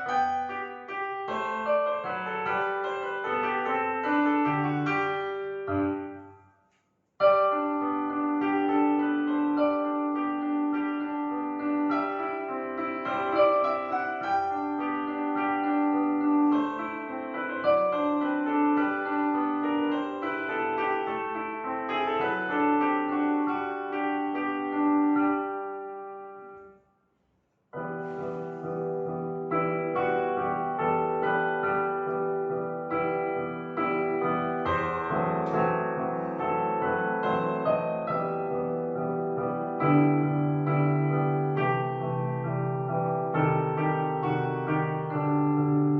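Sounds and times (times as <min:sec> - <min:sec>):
slow solo piano: 0:00.0 - 0:26.8, 0:27.7 - 0:45.9.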